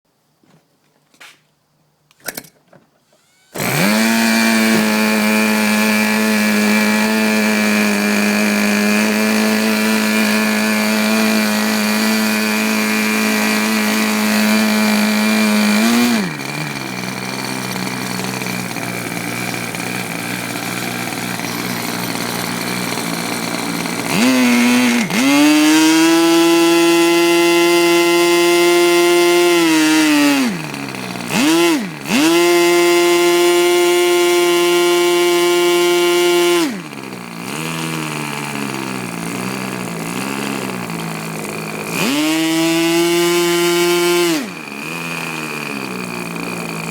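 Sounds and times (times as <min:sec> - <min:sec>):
model engine buzzing: 0:03.2 - 0:46.9.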